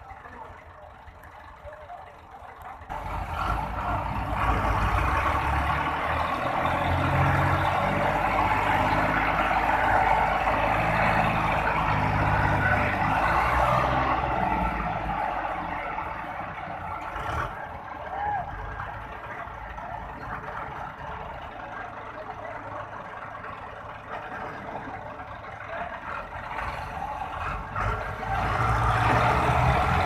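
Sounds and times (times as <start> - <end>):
diesel tractor engine revving: 0.0 - 30.0.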